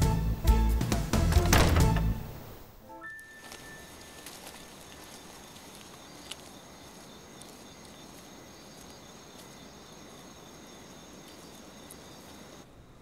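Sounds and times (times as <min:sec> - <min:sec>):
crickets chirring: 0:01.8 - 0:13.0.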